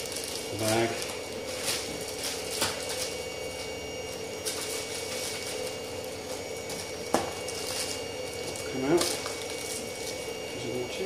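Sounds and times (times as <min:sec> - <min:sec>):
plastic bag rustling: 0:00.0 - 0:10.4.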